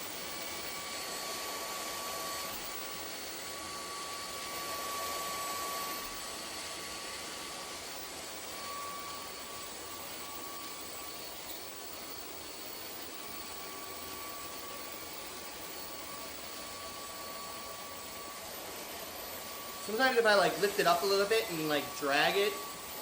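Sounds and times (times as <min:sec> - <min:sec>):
stick vacuum running: 0:00.0 - 0:23.0.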